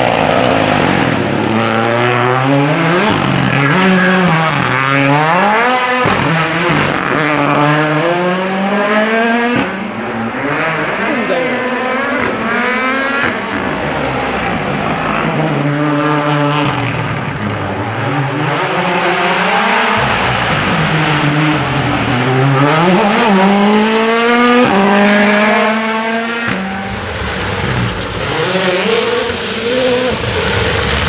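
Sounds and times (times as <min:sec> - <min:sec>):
rally car engines revving: 0:00.0 - 0:31.0
tyre and road noise: 0:00.0 - 0:31.0.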